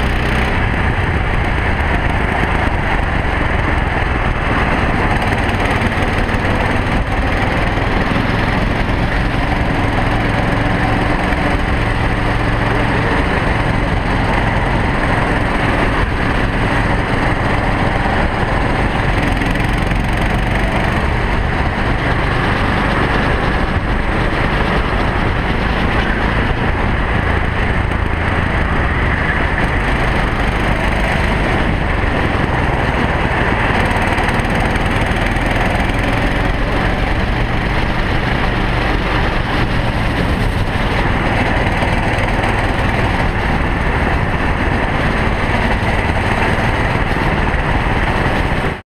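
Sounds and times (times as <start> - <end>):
kart engine running at speed: 0.0 - 48.8.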